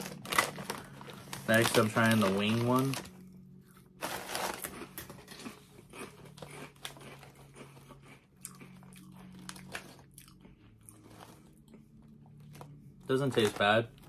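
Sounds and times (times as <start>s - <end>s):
chewing potato chip crunches: 0.0s - 14.0s.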